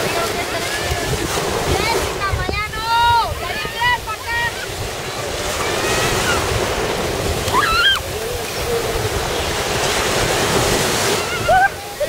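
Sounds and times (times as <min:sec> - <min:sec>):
small waves breaking on sand: 0:00.0 - 0:12.0
wind on microphone: 0:00.0 - 0:12.0.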